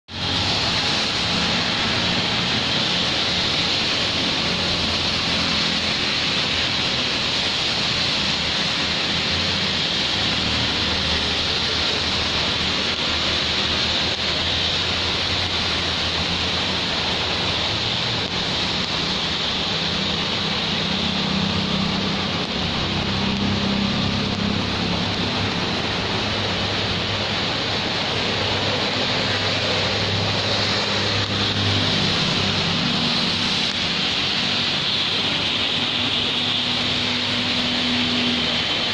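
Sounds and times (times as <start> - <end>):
traffic on wet road: 0.0 - 38.9
rain falling: 0.1 - 38.9.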